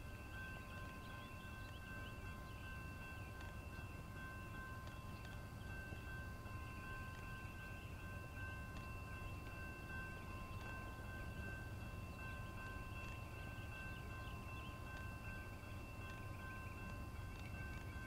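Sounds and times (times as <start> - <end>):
steady high-pitched tones: 0.0 - 18.0.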